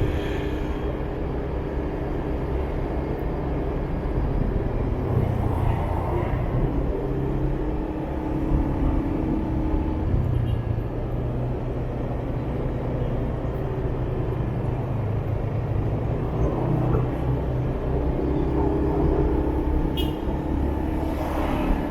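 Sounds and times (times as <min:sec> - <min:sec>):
road noise: 0:00.0 - 0:21.9.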